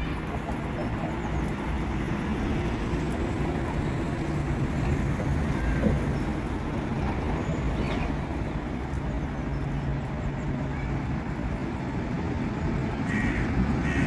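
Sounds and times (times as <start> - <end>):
low rumble of city traffic: 0.0 - 14.0.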